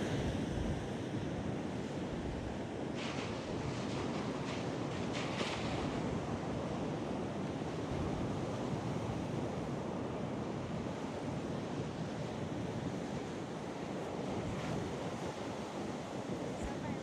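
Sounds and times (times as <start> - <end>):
ocean surf: 0.0 - 17.0
storm wind: 0.0 - 17.0
wind buffeting microphone: 0.1 - 17.0.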